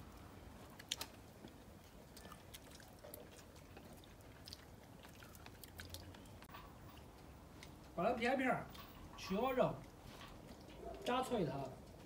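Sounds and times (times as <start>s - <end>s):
faint chewing: 0.1s - 8.0s, 9.8s - 12.0s.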